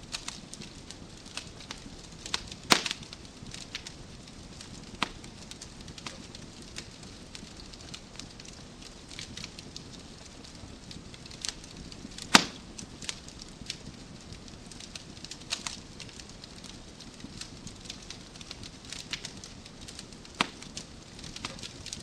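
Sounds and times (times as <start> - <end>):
wood fire crackling: 0.0 - 22.0
loud pop of fire: 0.1 - 10.0, 10.9 - 22.0.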